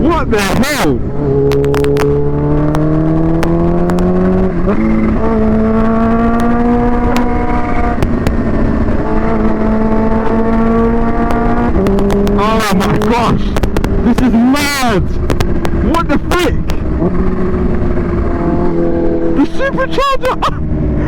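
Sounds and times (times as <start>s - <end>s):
wind noise on microphone: 0.0s - 19.4s
motorcycle engine accelerating: 0.0s - 21.0s.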